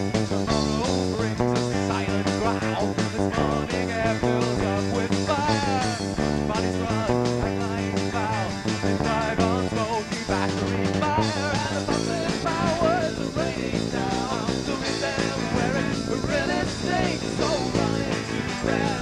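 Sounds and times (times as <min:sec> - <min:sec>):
bass: 0:00.0 - 0:19.0
drums: 0:00.0 - 0:19.0
electric guitar chords: 0:00.0 - 0:19.0.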